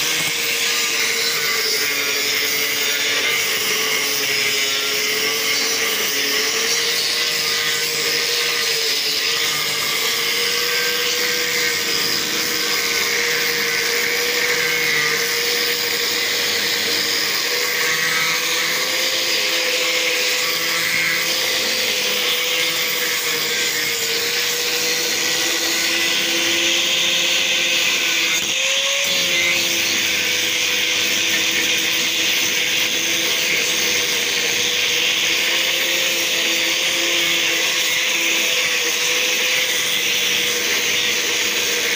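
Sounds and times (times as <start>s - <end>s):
angle grinder whining: 0.0s - 41.9s
grinder disc rasping on wood: 0.0s - 41.9s.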